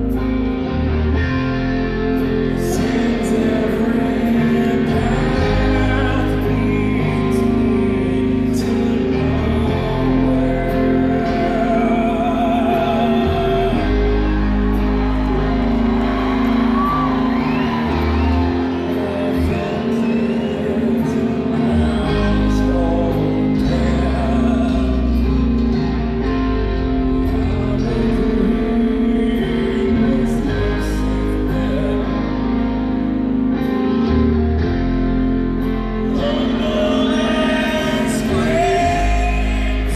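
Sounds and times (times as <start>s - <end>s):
lead vocal singing: 0.0s - 34.1s, 35.6s - 39.9s
live rock band playing: 0.0s - 39.9s.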